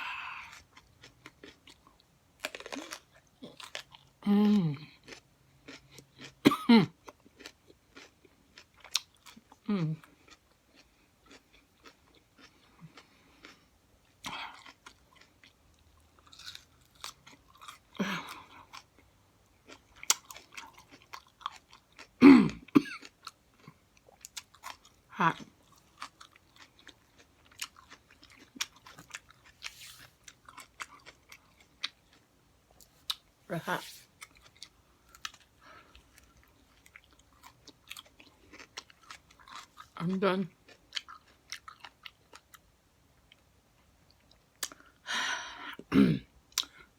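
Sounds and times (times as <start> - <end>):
chewing raw pepper crunching: 0.0 - 42.6.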